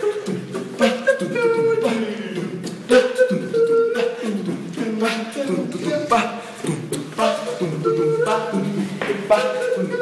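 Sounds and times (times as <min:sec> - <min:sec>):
person beatboxing: 0:00.0 - 0:10.0
person rapping: 0:00.8 - 0:10.0.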